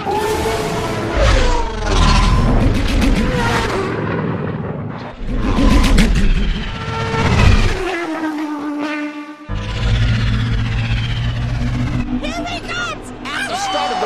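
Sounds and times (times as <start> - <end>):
whoosh of passing craft: 0.0 - 13.3
racing craft whining past: 0.0 - 14.0.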